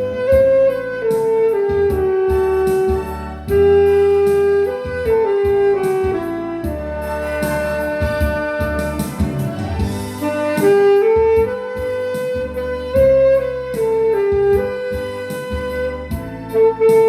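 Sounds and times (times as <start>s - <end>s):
alto saxophone melody: 0.0s - 17.0s
backing track with bass: 0.0s - 17.0s
steady drum beat: 0.0s - 17.0s.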